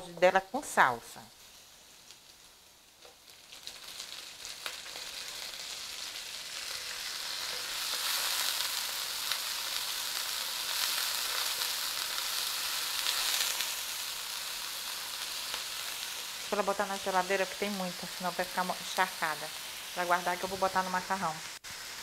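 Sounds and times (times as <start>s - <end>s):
parsley sizzling in oil: 0.0s - 22.0s.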